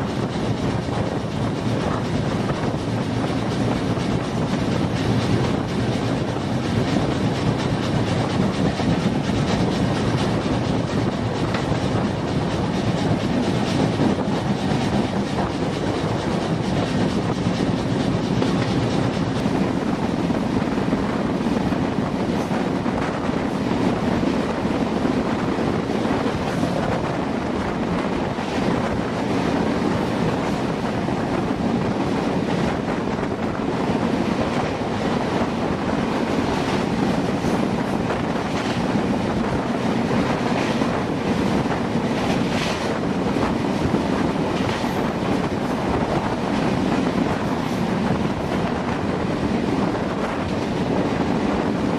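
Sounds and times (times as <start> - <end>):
train rumbling on rails: 0.0 - 51.9.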